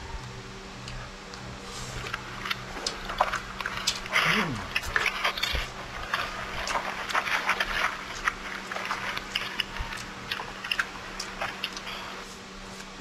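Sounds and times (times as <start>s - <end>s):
people chewing and lip smacking: 0.0s - 13.0s.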